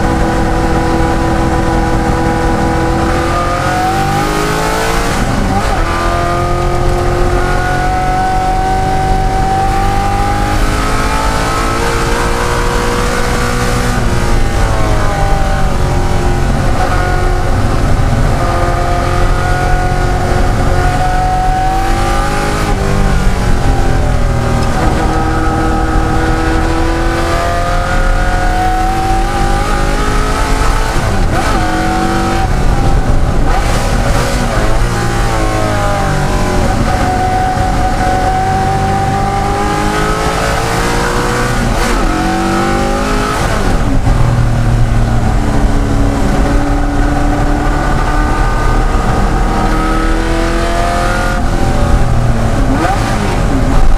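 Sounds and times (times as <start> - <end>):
racing car engine revving: 0.0 - 53.9.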